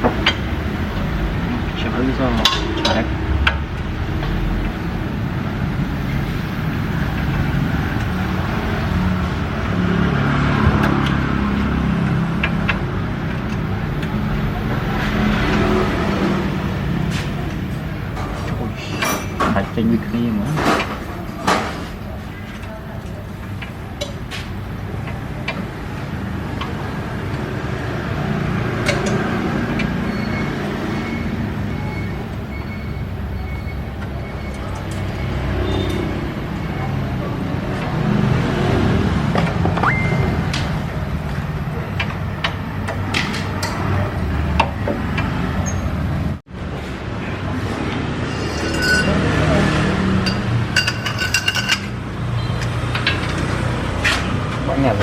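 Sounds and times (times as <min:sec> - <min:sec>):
motor vehicle noise: 0:00.0 - 0:55.0.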